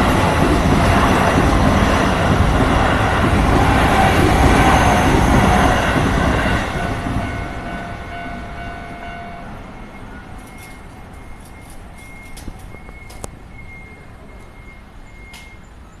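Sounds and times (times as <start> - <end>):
electric train rumbling past: 0.0 - 16.0.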